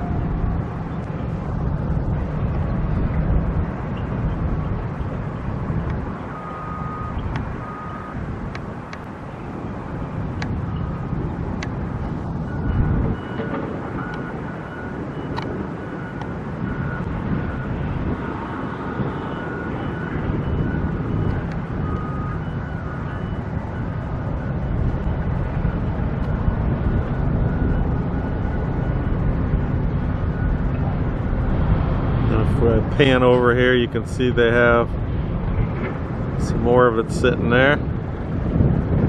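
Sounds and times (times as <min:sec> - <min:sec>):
vehicles and machinery rumbling: 0:00.0 - 0:39.0.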